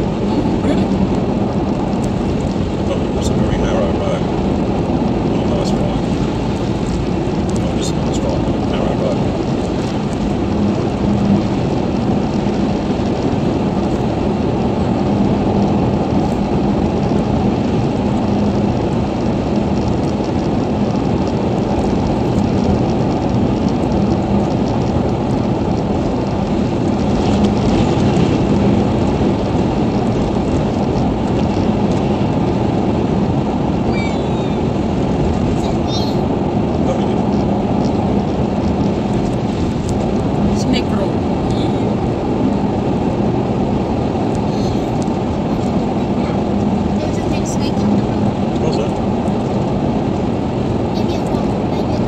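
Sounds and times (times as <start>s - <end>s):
tyres and engine rumble in car: 0.0s - 52.0s.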